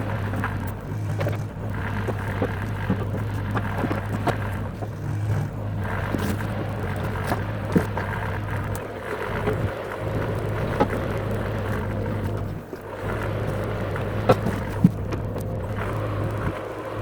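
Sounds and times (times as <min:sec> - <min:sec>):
loader engine running: 0:00.0 - 0:17.0
logs knocking and clunking: 0:00.0 - 0:17.0.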